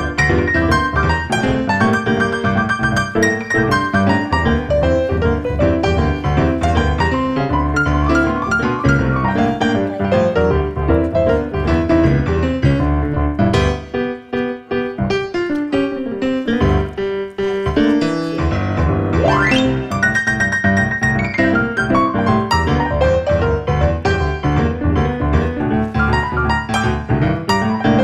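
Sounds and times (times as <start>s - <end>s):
piano background music: 0.0s - 28.0s.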